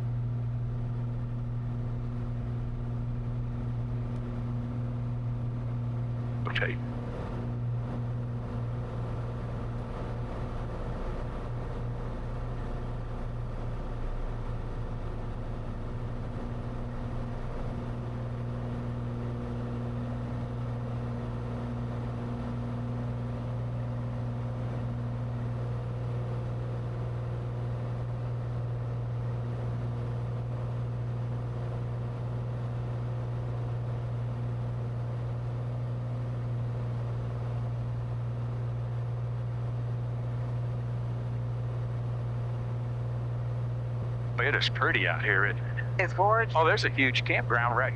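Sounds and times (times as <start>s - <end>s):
aircraft engine and propeller droning: 0.0s - 47.9s.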